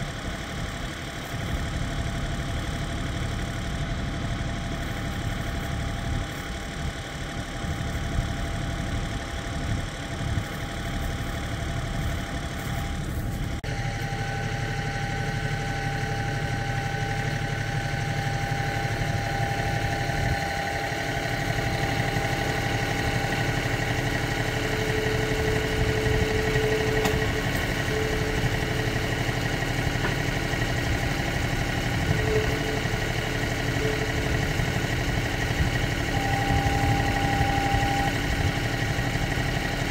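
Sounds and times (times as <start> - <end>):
tractor engine idling: 0.0 - 39.9
high whine: 7.7 - 39.9.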